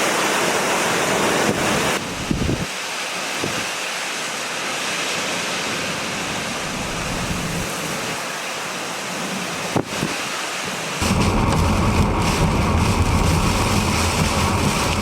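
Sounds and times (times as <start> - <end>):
hurricane wind: 0.0 - 15.0
wind-driven rain: 0.0 - 15.0.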